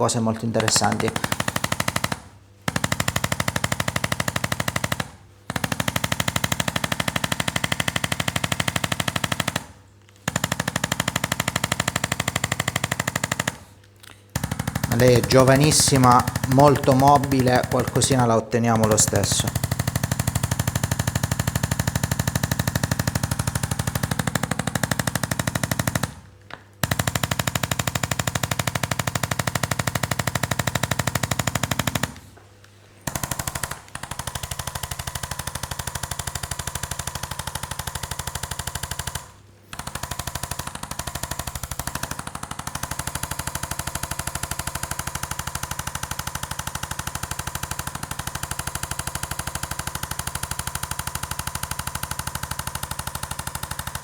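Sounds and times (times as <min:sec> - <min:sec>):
rapid mechanical hammering: 0:00.6 - 0:32.4, 0:33.0 - 0:54.0.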